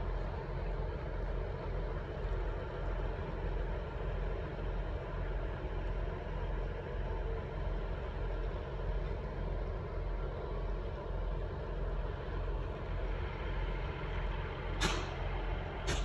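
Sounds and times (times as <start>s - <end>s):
diesel train engine idling: 0.0s - 16.0s.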